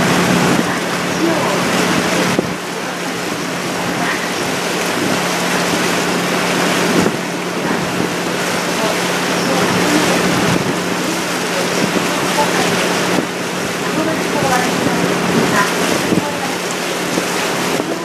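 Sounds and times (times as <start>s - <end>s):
boat engine hum: 0.0s - 18.0s
water rushing against hull: 0.0s - 18.0s.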